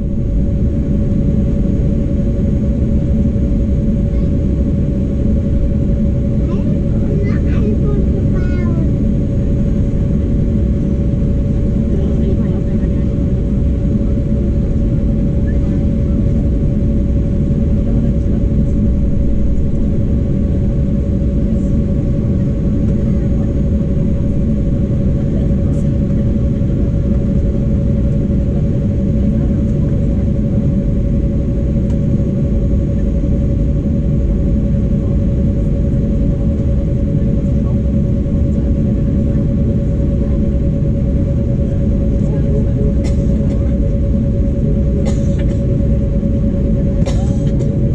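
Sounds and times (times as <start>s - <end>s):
jet engines rumbling and whining: 0.0s - 47.9s.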